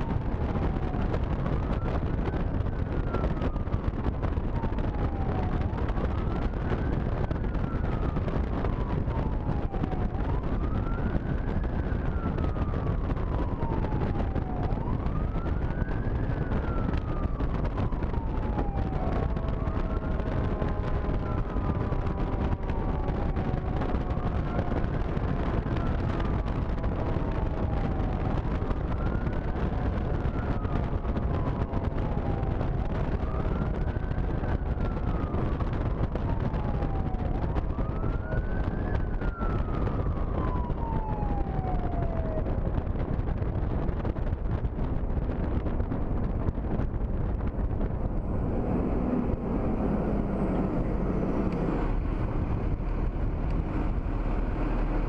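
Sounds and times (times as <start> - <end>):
fire engine siren wailing: 0.0 - 55.0
truck engine and road noise: 0.0 - 55.0
wind buffeting microphone: 0.0 - 55.0.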